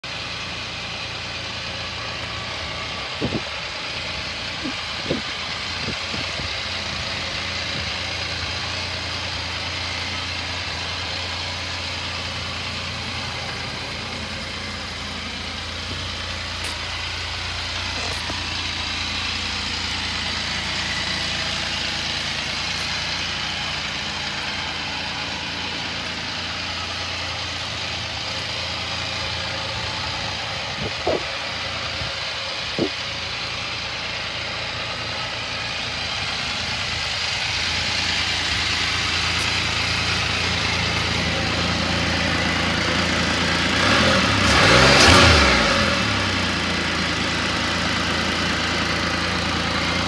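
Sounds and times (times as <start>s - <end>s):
three-wheeler engine idling: 0.0s - 50.0s.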